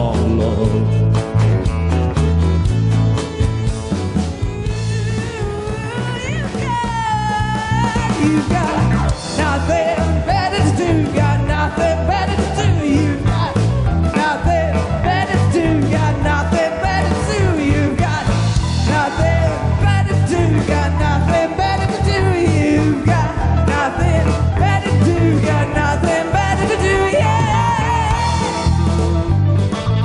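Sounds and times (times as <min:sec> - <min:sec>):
bending guitar lead line: 0:00.0 - 0:30.0
live rock band playing: 0:00.0 - 0:30.0.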